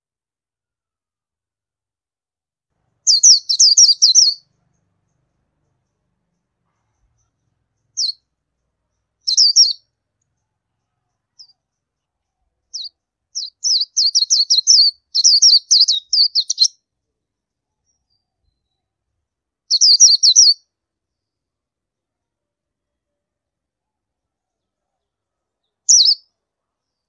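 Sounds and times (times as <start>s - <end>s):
bird chirping: 2.8s - 21.5s, 23.8s - 27.0s.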